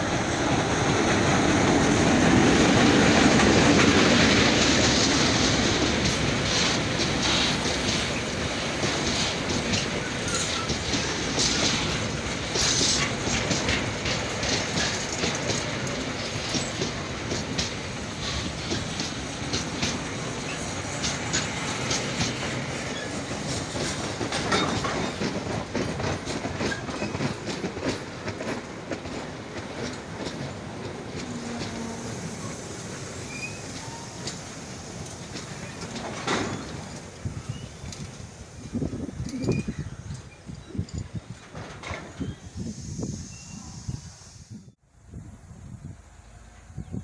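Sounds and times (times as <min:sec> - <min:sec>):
freight train wagons rolling past: 0:00.0 - 0:47.0
wheels clattering over rail joints: 0:00.4 - 0:42.4.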